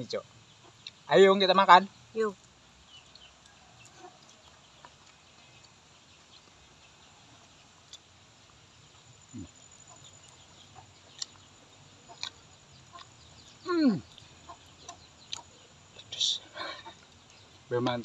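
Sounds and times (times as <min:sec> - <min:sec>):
chickens clucking: 0:00.5 - 0:01.3, 0:03.0 - 0:08.1, 0:08.8 - 0:18.0.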